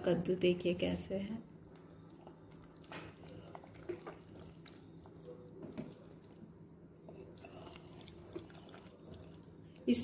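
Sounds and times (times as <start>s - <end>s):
low steady hum: 0.0s - 10.0s
spoon stirring thick curry: 1.5s - 9.8s.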